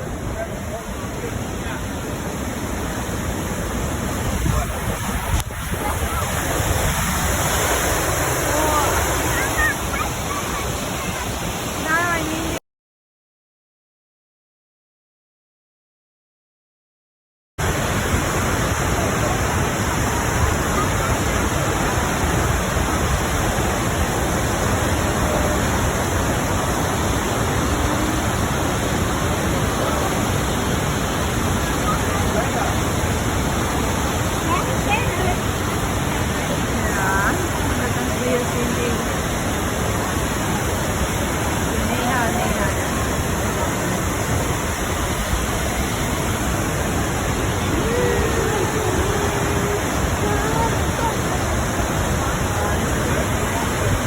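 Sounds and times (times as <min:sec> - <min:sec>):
waterfall rushing: 0:00.0 - 0:12.6, 0:17.6 - 0:54.0.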